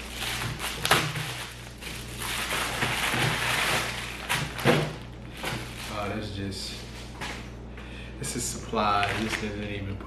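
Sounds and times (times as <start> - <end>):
plastic packaging crinkling: 0.0 - 7.4, 8.7 - 9.7.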